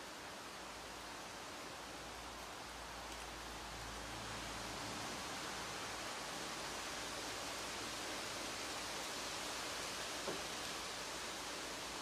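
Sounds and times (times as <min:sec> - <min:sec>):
leaves rustling in wind: 0:00.0 - 0:12.0.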